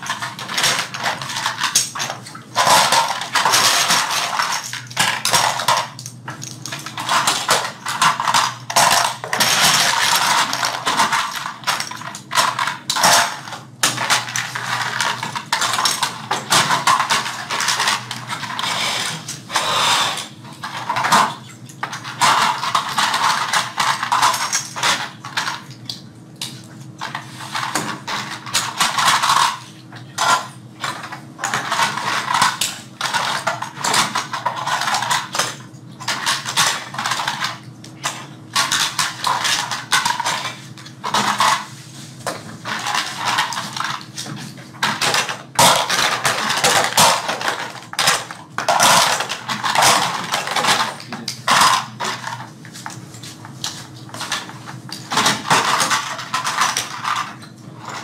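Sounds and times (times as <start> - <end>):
small plastic parts clattering: 0.0 - 25.7, 26.4 - 58.0
faint steady hum: 0.0 - 58.0.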